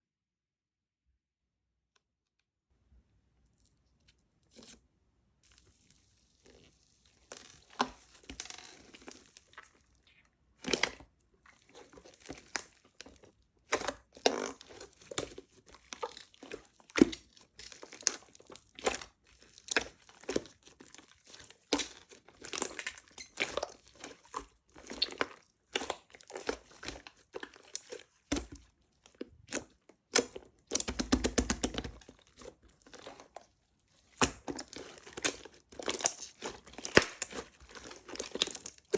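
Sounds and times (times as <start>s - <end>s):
slime crackling and squishing: 5.4s - 38.9s.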